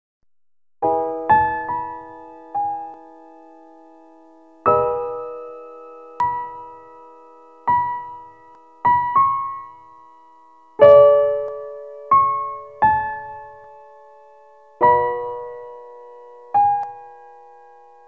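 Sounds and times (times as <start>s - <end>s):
slow piano-like keyboard notes: 0.8s - 18.0s.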